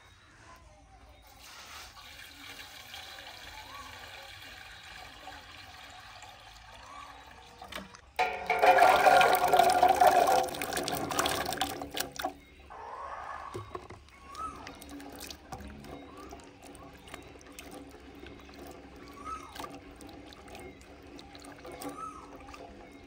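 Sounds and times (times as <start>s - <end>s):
water gushing into container: 1.9s - 12.5s, 13.5s - 23.0s.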